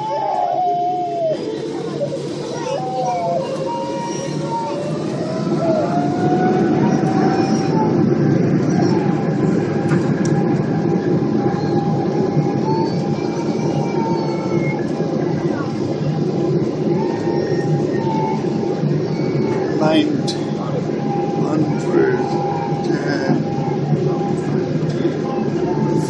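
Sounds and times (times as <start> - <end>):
jet engines heard inside cabin: 0.0 - 26.0.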